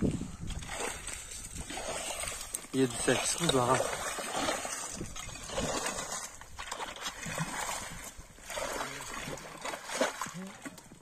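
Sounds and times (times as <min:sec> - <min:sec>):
icy water sloshing and splashing: 0:00.0 - 0:11.0
poles stirring slush and ice: 0:00.4 - 0:11.0.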